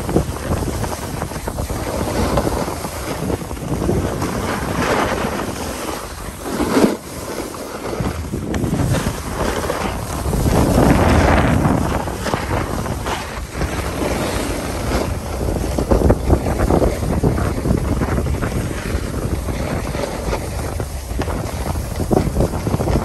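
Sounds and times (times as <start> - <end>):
snowboard edges scraping snow: 0.0 - 23.0
wind rushing over microphone: 0.0 - 23.0.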